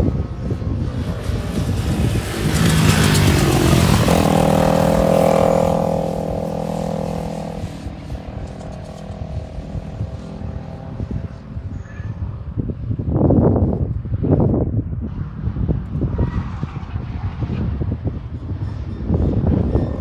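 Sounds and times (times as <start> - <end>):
motorcycle passing by: 0.0 - 20.0.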